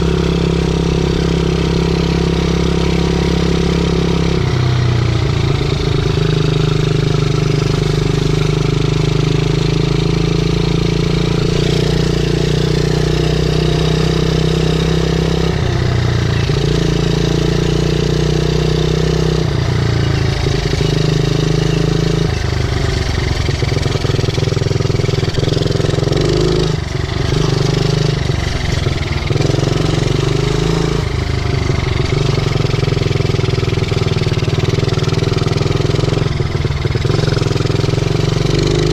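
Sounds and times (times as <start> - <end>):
pit bike engine running: 0.0 - 38.9.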